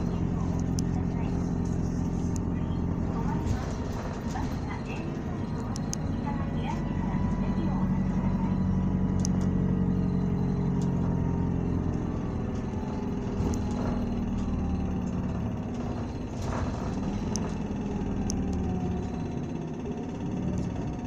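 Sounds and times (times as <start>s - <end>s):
bus diesel engine running: 0.0s - 21.0s
road noise: 0.0s - 21.0s.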